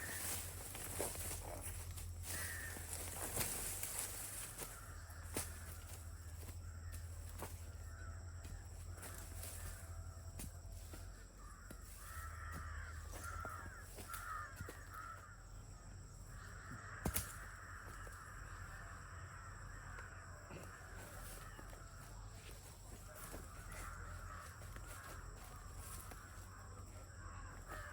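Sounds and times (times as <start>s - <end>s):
crows cawing: 0.0s - 27.9s.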